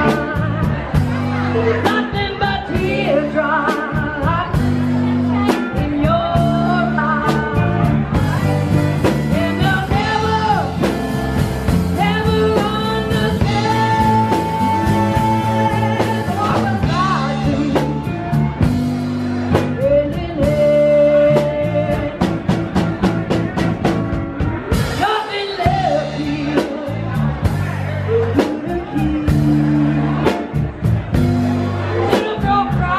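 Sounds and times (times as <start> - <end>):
woman singing: 0.0 - 18.5, 19.5 - 22.6, 24.8 - 30.5, 32.0 - 32.9
live rock band playing: 0.0 - 32.9.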